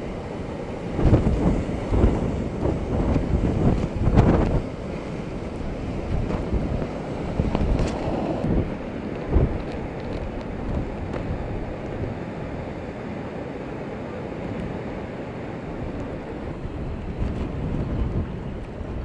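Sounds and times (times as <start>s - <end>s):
storm surf crashing: 0.0s - 19.0s
wind rumbling on microphone: 0.0s - 19.0s.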